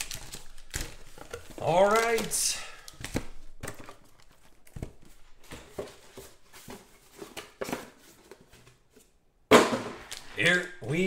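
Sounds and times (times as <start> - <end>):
cardboard and wrappers rustling: 0.0 - 9.2.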